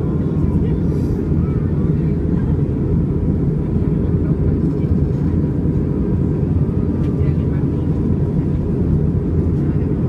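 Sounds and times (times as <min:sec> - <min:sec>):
airplane engine rumble: 0:00.0 - 0:10.0.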